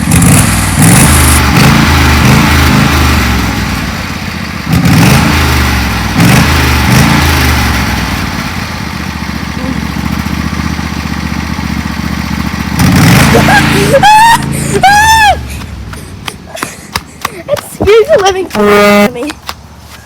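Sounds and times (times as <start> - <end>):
tractor engine revving: 0.0 - 19.9.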